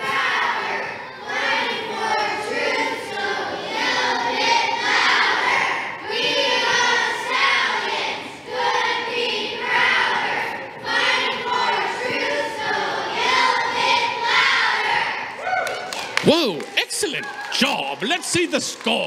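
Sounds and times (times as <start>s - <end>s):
group singing a cheer: 0.0s - 15.4s.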